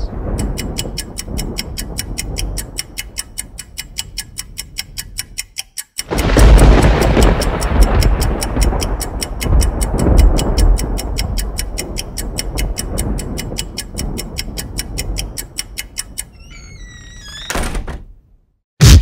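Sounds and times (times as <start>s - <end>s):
fast even ticking: 0.0s - 16.4s.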